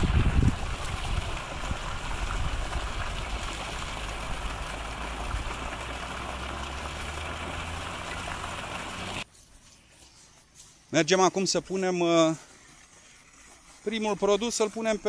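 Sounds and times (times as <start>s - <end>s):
fountain spray rushing: 0.0s - 9.2s, 11.8s - 15.0s.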